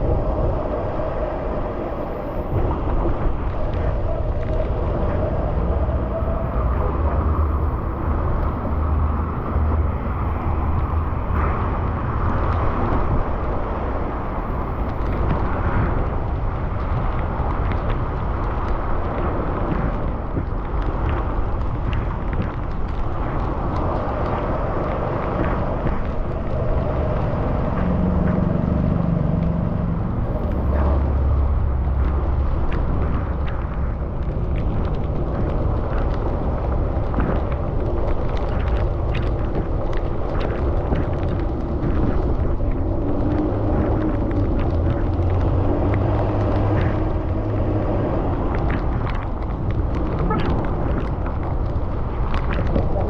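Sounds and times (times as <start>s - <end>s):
wind and road noise: 0.0s - 53.0s
raindrops ticking: 0.1s - 53.0s.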